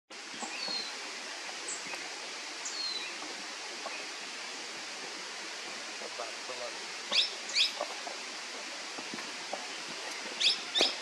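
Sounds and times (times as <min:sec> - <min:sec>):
steady outdoor hiss: 0:00.1 - 0:11.0.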